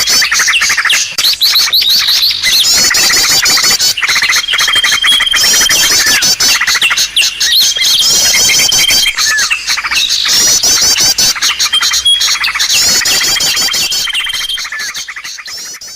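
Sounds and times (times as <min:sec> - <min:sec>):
songbird chorus chirping: 0:00.0 - 0:15.9.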